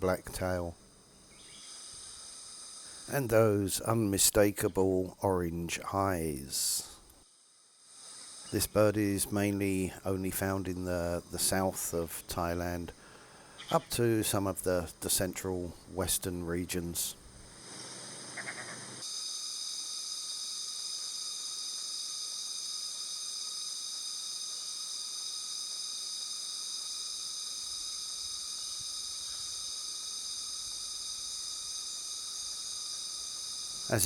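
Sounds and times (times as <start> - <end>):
insects ringing: 0.0 - 34.0
soft hiss: 0.0 - 34.0.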